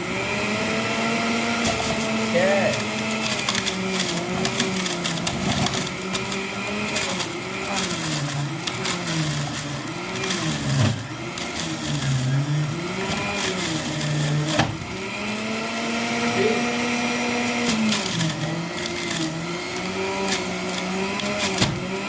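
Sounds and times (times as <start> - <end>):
electric juicer motor running: 0.0 - 22.0.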